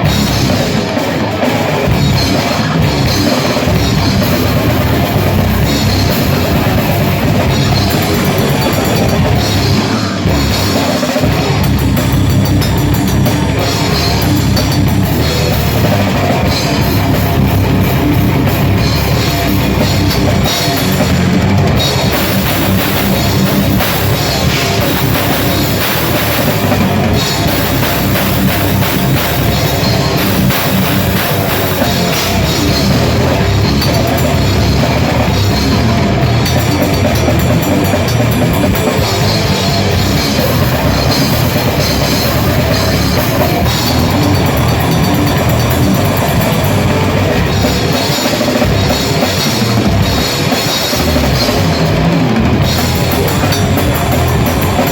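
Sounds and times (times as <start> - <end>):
drum kit: 0.0 - 54.9
grindcore band playing live: 0.0 - 54.9.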